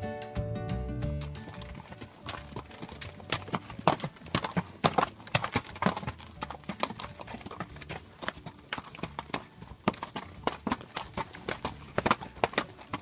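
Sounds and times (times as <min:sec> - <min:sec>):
hooves clopping on stone: 0:01.0 - 0:13.0.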